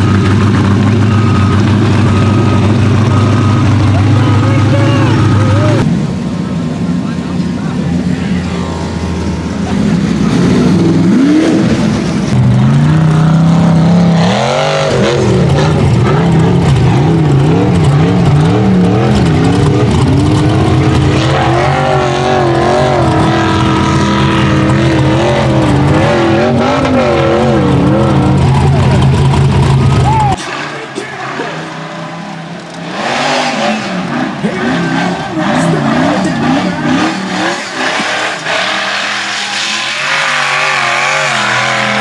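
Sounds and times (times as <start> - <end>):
buggy engine revving hard: 0.0 - 5.9, 8.6 - 42.0.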